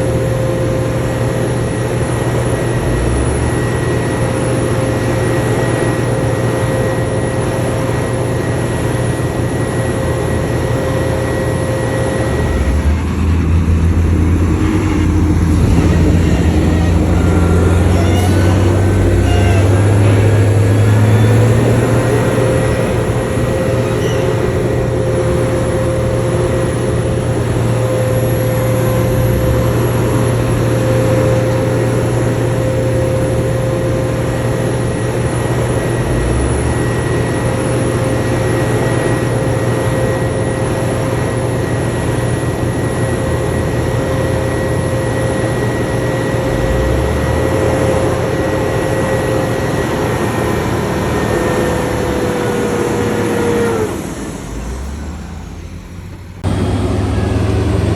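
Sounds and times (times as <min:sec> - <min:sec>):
heavy diesel machinery engine drone: 0:00.0 - 0:57.9
steady whine: 0:00.0 - 0:57.9.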